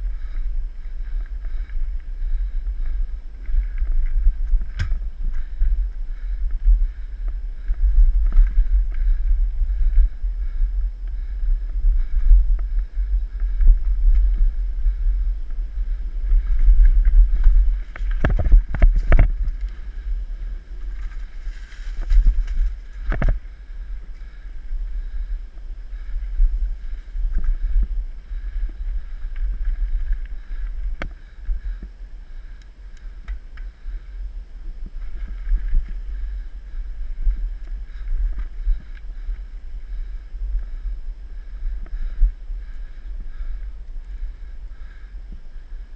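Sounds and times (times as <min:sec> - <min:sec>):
wind buffeting microphone: 0:00.0 - 0:45.9
bike rattling over trail: 0:00.1 - 0:43.6.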